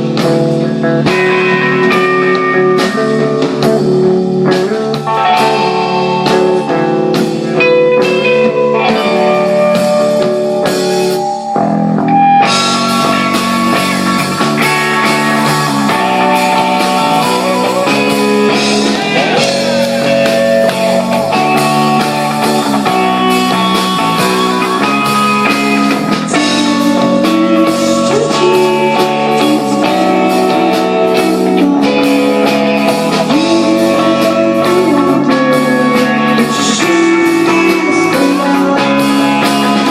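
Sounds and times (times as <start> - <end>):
live rock band playing: 0.0 - 39.9
picked electric guitar notes: 0.0 - 39.9.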